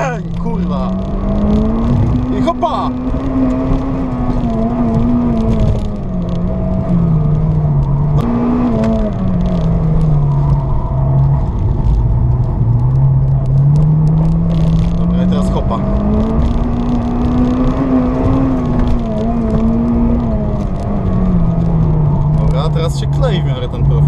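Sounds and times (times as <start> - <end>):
car engine revving: 0.0 - 24.0
road and tyre noise: 0.0 - 24.0.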